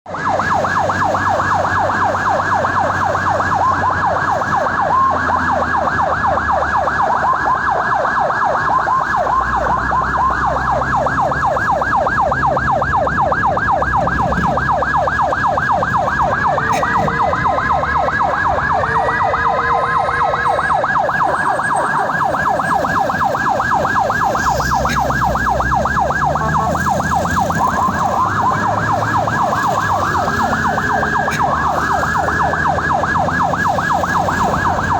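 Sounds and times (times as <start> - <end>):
engine and road noise: 0.0 - 34.9
siren yelping: 0.1 - 34.9
slow gliding siren tone: 0.1 - 34.9.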